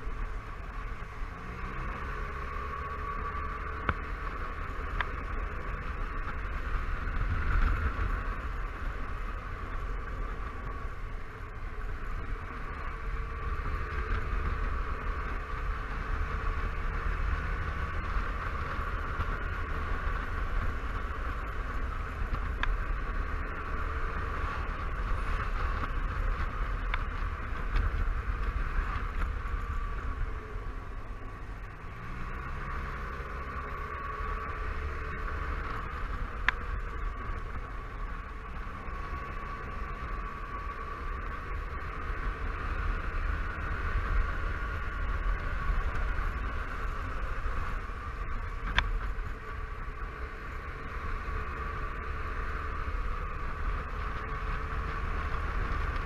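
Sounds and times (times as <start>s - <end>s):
scooter engine: 0.0s - 56.0s
wind rumbling on microphone: 0.0s - 56.0s.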